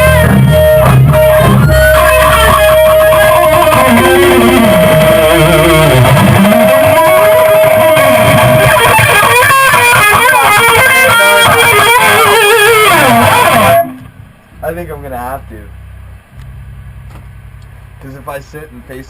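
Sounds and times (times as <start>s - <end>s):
electric guitar with bends: 0.0s - 19.0s
low bass: 0.0s - 19.0s.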